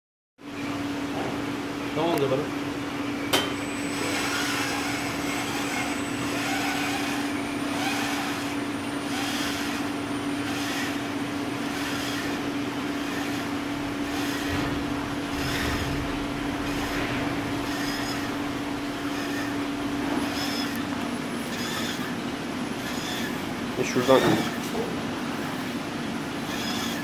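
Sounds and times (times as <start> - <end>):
machine motor hum: 0.5 - 27.0.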